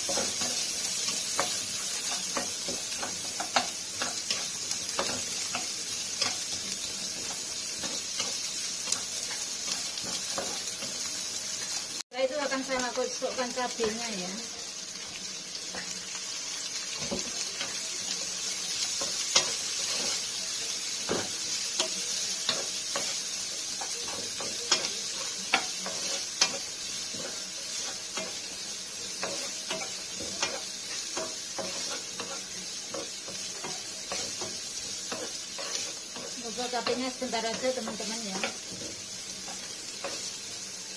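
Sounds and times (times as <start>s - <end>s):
spatula scraping a pan: 0.0s - 11.1s, 16.9s - 40.4s
vegetables sizzling in hot oil: 0.0s - 40.9s.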